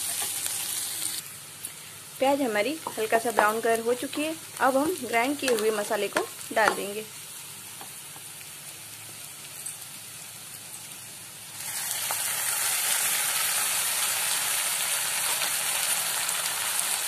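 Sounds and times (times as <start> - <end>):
onions sizzling in oil: 0.0 - 17.0
paste sizzling in hot oil: 0.0 - 17.0.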